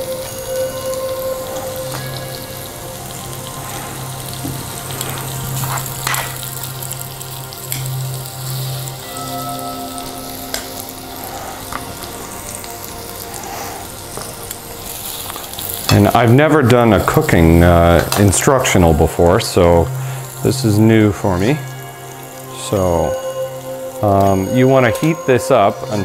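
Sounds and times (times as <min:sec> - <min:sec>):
butter and onions sizzling in pan: 0:00.0 - 0:26.0.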